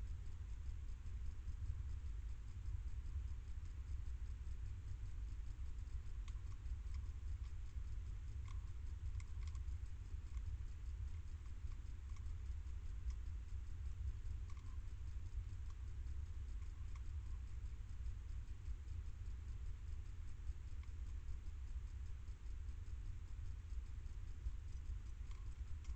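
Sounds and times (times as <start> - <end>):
low hum: 0.0 - 25.9.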